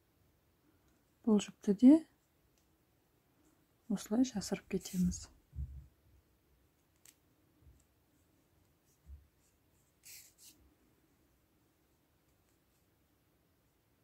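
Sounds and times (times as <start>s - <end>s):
needle and yarn handling: 0.8s - 6.0s, 6.6s - 13.3s.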